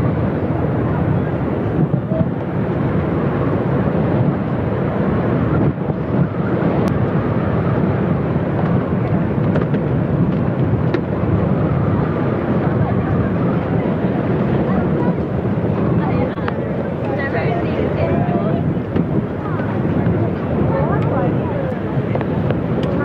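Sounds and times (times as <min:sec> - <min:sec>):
outdoor low rumble: 0:00.0 - 0:23.0.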